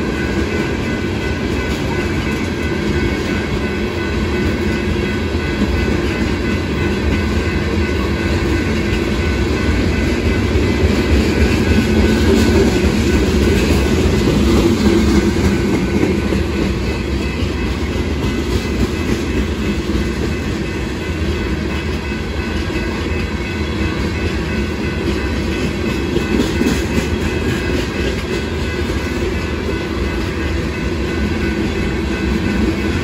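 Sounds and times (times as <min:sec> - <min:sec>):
steel wheels rumbling on rails: 0:00.0 - 0:33.0
wheels clickety-clack over joints: 0:00.0 - 0:33.0.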